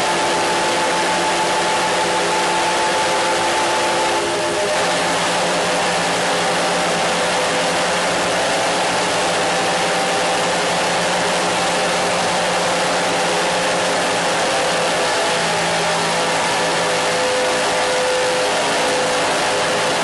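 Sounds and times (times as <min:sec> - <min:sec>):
loud steady hiss: 0:00.0 - 0:20.0
steady humming tones: 0:00.0 - 0:20.0.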